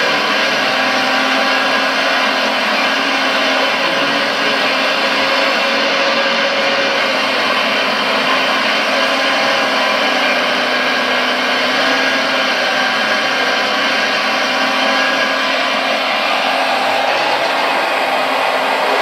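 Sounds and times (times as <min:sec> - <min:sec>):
hydraulics and motors whirring: 0:00.0 - 0:19.0
simulated diesel engine: 0:00.0 - 0:19.0.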